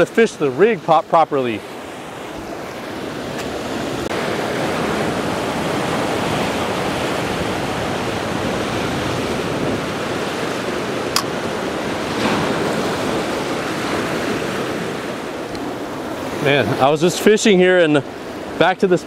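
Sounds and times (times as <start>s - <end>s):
surf breaking on rocks: 0.0s - 18.7s.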